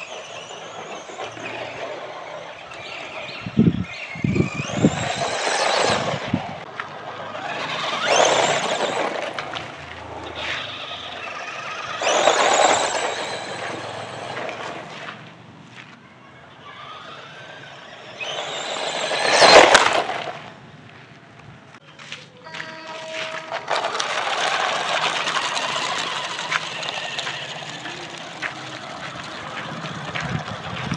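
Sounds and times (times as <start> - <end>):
electric motor whining: 0.0 - 14.9, 16.6 - 20.6, 23.3 - 30.9
tyres scrabbling on gravel: 0.0 - 30.9.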